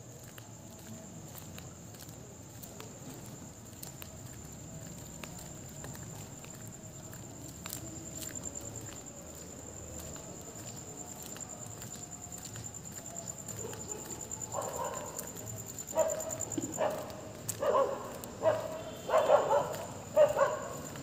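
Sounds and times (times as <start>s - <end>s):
soft footsteps on road: 0.0s - 21.0s
high-pitched insect trill: 3.2s - 21.0s.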